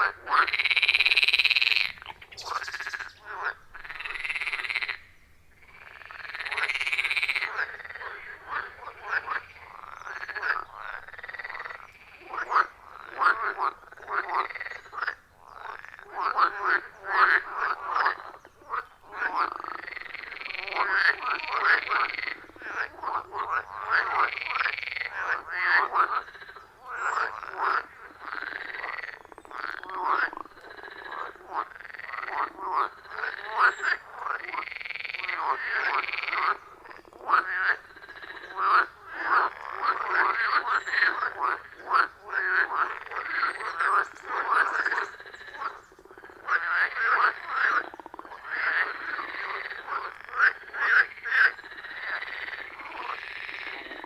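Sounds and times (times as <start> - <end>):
frogs croaking: 0.0 - 54.0.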